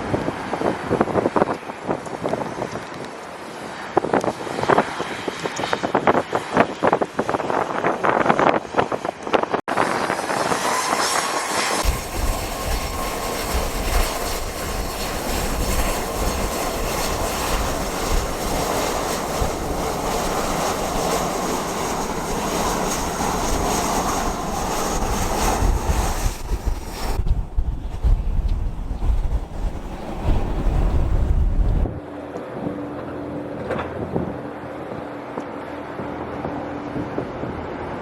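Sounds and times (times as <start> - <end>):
wind buffeting microphone: 0.0 - 33.0
jet engines with high whine: 0.0 - 38.0.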